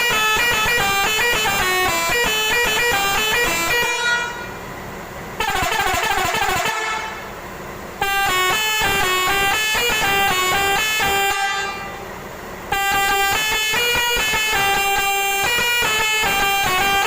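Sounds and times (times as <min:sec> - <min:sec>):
air horns playing a tune: 0:00.0 - 0:04.6, 0:05.4 - 0:07.3, 0:08.0 - 0:12.0, 0:12.7 - 0:17.0.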